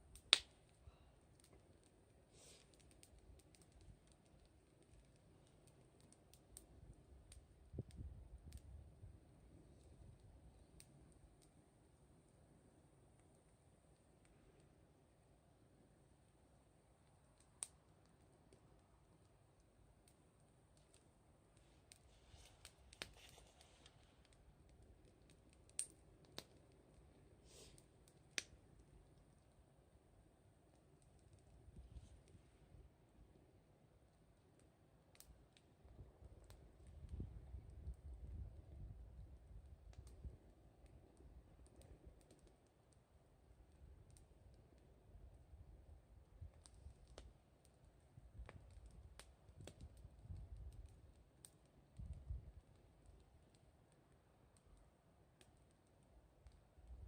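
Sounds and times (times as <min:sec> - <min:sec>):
wood fire crackling faintly: 0:00.0 - 0:57.0.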